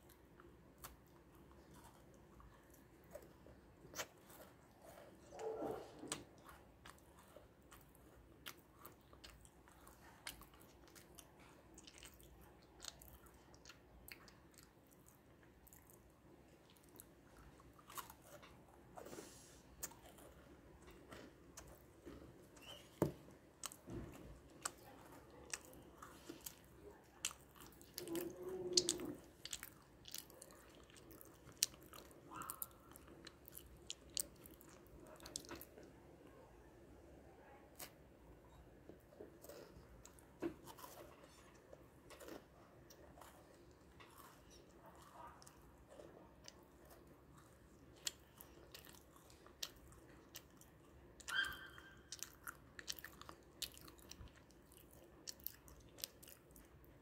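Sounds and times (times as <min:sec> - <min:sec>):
cookies crunching being chewed: 0:00.0 - 0:57.0.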